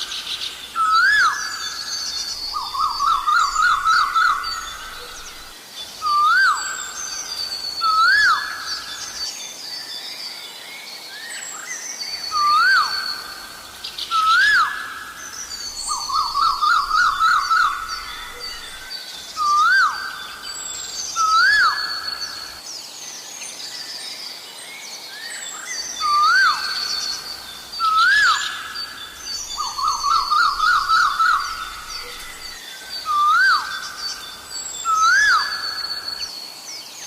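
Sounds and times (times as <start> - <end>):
bird whistled calls: 0.0 - 9.2, 12.2 - 22.6, 25.2 - 36.3
small birds chirping: 0.0 - 24.4, 25.1 - 37.0.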